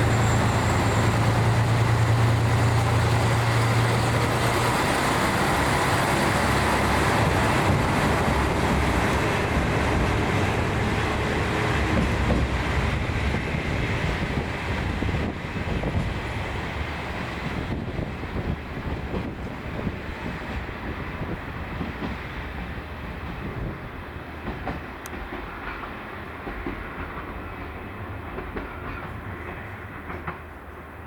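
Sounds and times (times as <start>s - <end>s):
diesel railcar engine hum: 0.0s - 31.0s.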